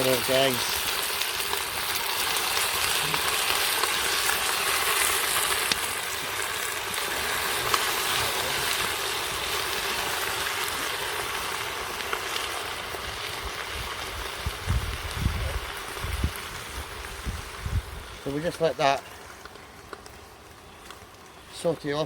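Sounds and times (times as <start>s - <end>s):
chicken sizzling in a pot: 0.0s - 22.0s.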